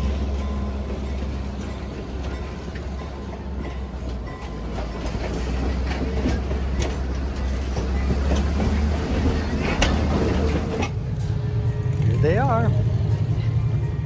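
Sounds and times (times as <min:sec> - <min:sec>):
vehicle rumbling in motion: 0:00.0 - 0:14.0.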